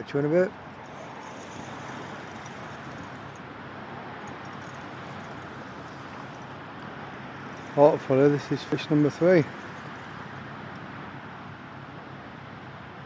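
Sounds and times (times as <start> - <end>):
rushing outdoor background noise: 0.0 - 13.0.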